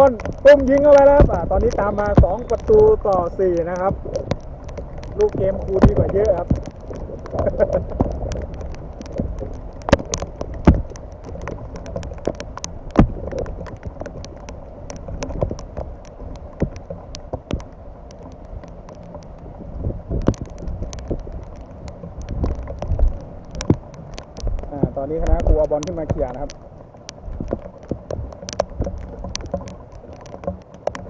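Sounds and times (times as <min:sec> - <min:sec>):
raindrops tapping nearby: 0:00.0 - 0:31.0
steady rain falling: 0:00.0 - 0:31.0.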